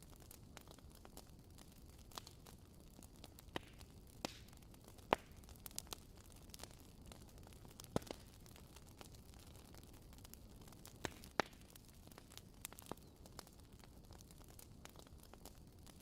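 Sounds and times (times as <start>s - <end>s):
fire crackling in a fireplace: 0.0s - 16.0s.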